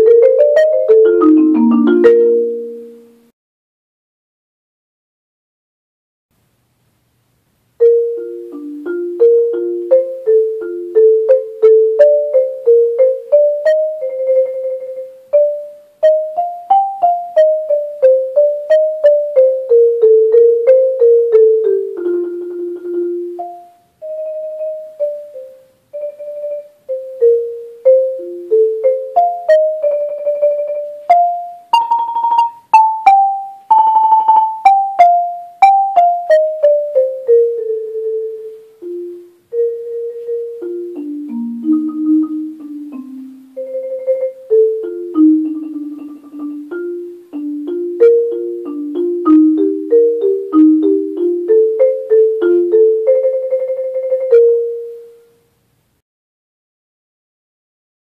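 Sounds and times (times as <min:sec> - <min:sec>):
marimba played with mallets: 0:00.0 - 0:03.1, 0:07.8 - 0:55.2.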